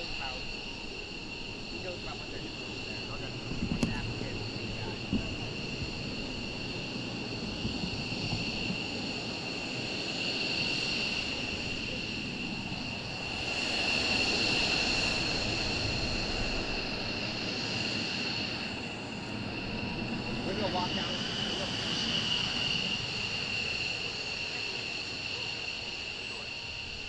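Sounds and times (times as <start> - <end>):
jet engines whining and rumbling: 0.0 - 27.0.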